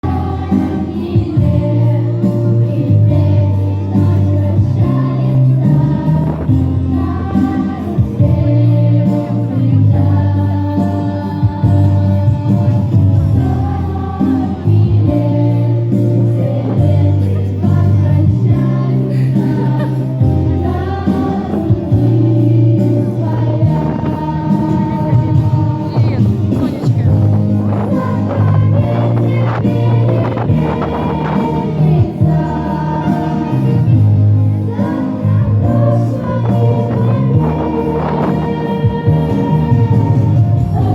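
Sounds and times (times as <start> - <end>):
backing track with bass line: 0.0 - 40.9
girls singing in ensemble: 0.0 - 40.9.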